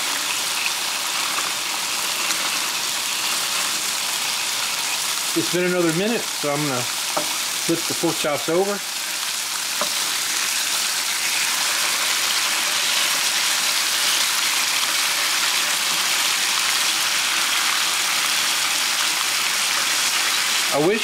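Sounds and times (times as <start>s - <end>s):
meat sizzling on a griddle: 0.0s - 21.0s.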